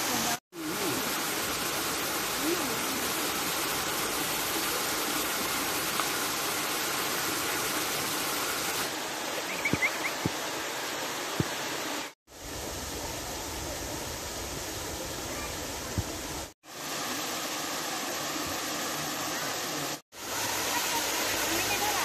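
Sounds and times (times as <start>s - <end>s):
waterfall pouring into pool: 0.1s - 12.6s, 15.3s - 22.0s.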